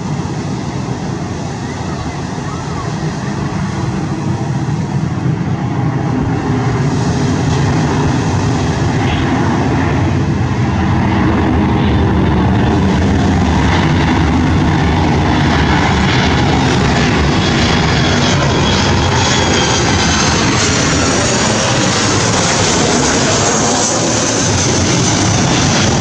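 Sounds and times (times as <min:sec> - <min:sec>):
jet airliner passing overhead: 0:00.0 - 0:26.0.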